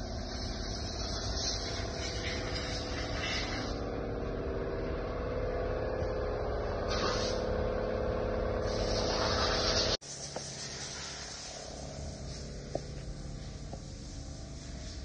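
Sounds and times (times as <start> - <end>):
quieter hum: 0.0 - 9.3, 10.1 - 15.0
machine hum: 0.0 - 15.0.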